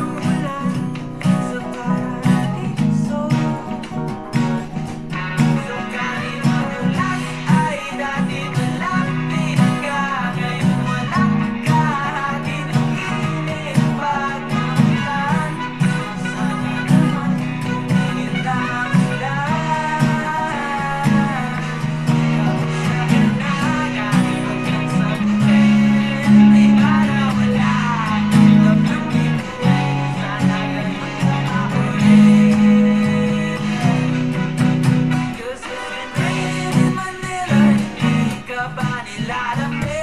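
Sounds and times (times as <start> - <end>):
acoustic guitar strumming: 0.0 - 40.0
person singing: 0.0 - 40.0.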